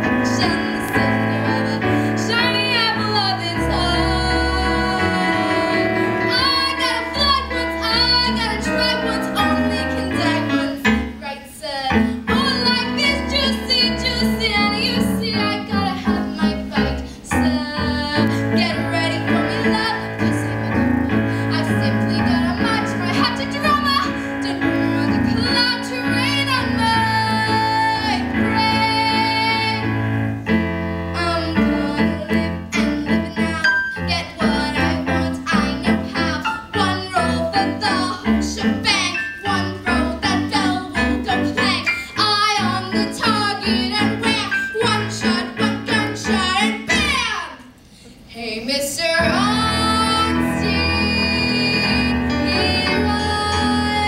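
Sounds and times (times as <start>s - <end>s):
piano accompaniment: 0.0s - 47.7s, 49.0s - 54.0s
woman singing a show tune: 0.2s - 29.8s, 31.2s - 47.7s.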